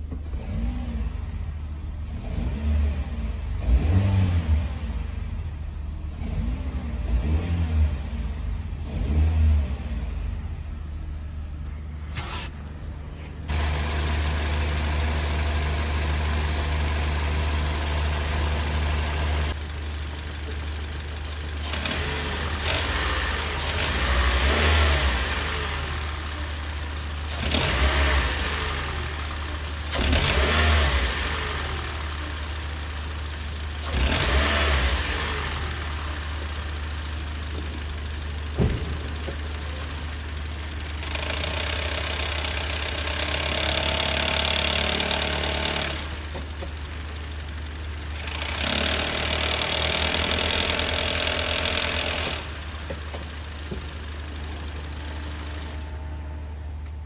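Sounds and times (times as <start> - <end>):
car engine revving: 2.0 - 5.3, 6.0 - 10.4, 13.5 - 55.8.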